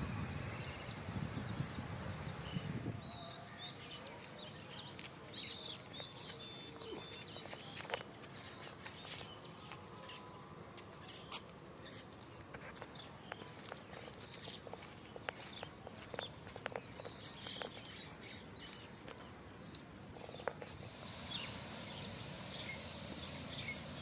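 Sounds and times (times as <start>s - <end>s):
faint small birds chirping: 2.3s - 24.0s.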